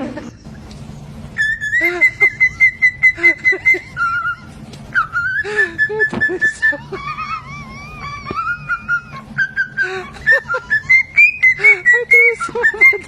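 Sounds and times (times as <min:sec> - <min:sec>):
parrot whistling: 0:01.4 - 0:13.0.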